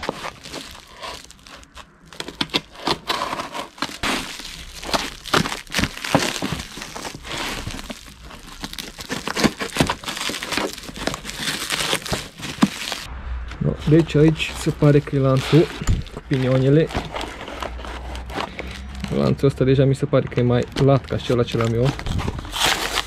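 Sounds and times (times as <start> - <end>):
packaging crinkling: 0.0 - 13.1, 14.1 - 19.6, 20.4 - 23.0.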